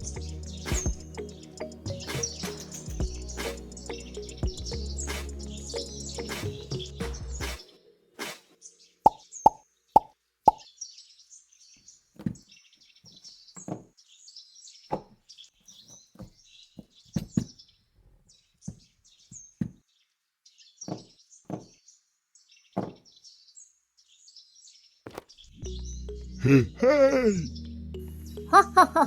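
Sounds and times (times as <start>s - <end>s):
small birds chirping: 0.0s - 26.5s.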